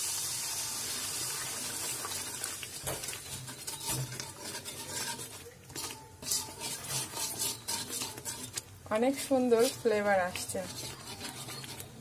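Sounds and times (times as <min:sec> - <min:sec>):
wire skimmer stirring paste in pan: 0:01.9 - 0:12.0
metal scraping and clicking on pan: 0:02.1 - 0:12.0.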